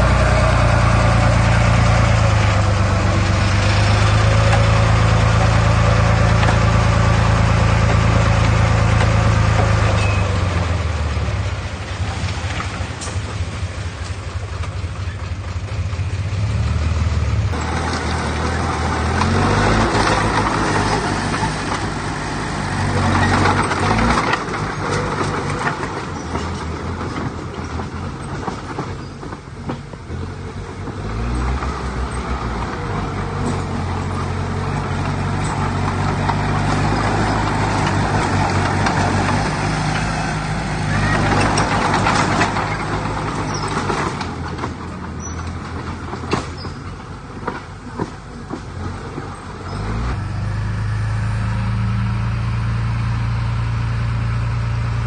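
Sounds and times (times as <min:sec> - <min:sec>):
heavy diesel engine: 0:00.0 - 0:55.0.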